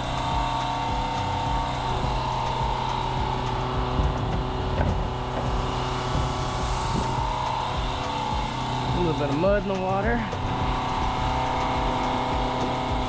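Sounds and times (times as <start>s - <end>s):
truck engine and vacuum pump: 0.0s - 13.0s.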